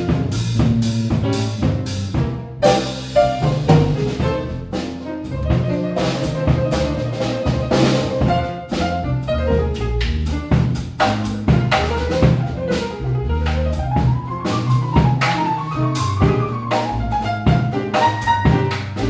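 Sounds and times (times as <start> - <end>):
bass: 0.0 - 19.0
drum kit: 0.0 - 19.0
piano: 0.0 - 19.0.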